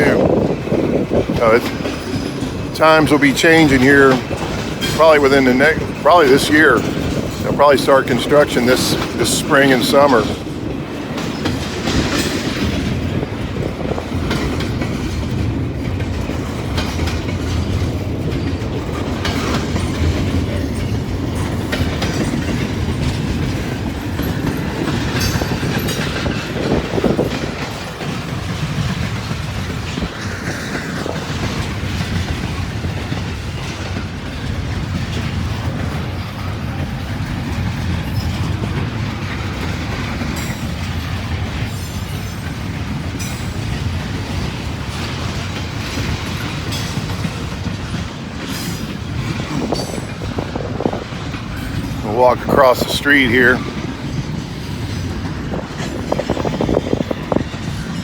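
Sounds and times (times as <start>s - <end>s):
freight train rumbling past: 0.0s - 58.0s
wheels clicking over rail joints: 0.0s - 58.0s.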